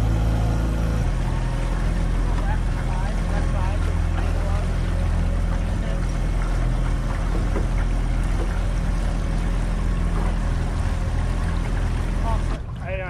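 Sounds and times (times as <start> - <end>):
boat engine running: 0.0 - 13.0
water wash: 0.0 - 13.0.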